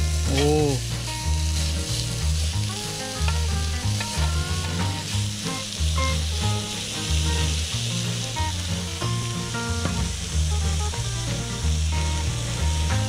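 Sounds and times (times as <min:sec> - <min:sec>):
music with stepping bass line: 0:00.0 - 0:13.0
pork sizzling on griddle: 0:00.0 - 0:13.0.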